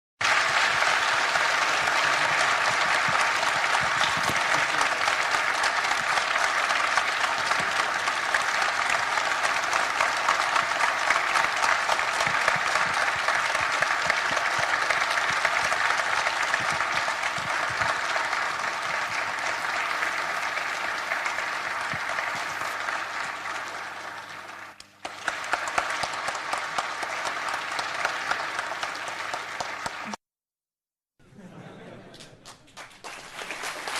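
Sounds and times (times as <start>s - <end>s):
audience applauding: 0.2s - 30.2s, 32.2s - 33.9s.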